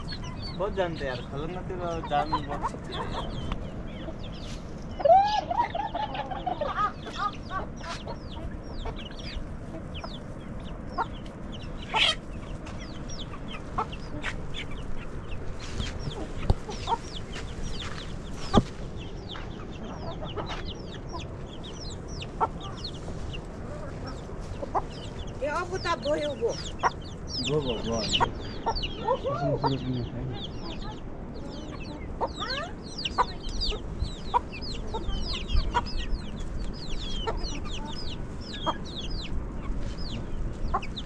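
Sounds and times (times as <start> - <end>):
chickens clucking and chirping: 0.0 - 41.0.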